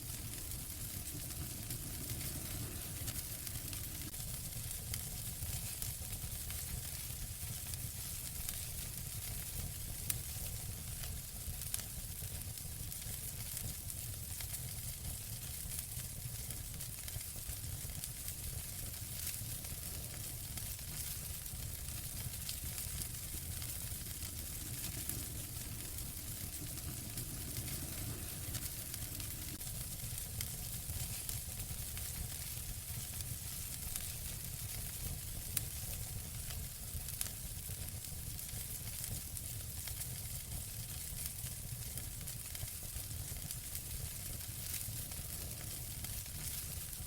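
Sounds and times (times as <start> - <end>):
fire crackling in a fireplace: 0.0 - 47.0.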